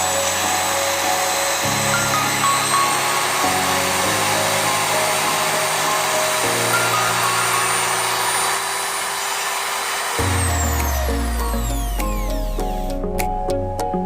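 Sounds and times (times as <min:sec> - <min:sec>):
background music: 0:00.0 - 0:08.8, 0:10.2 - 0:14.0
electric drill whining: 0:00.0 - 0:13.2.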